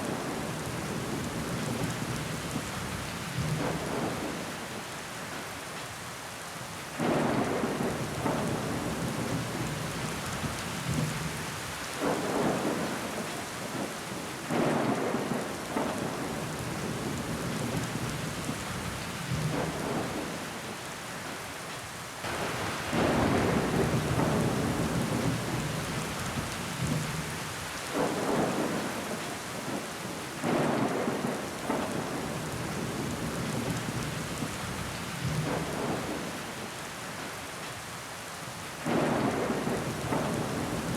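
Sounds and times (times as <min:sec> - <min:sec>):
heavy rain on window glass: 0:00.0 - 0:40.9.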